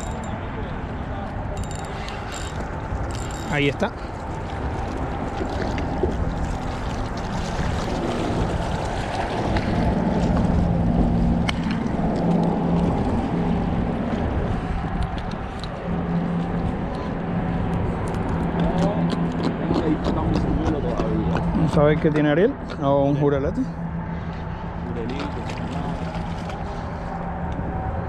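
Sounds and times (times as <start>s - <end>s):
water noise: 0.0s - 28.0s
wind: 0.0s - 28.0s.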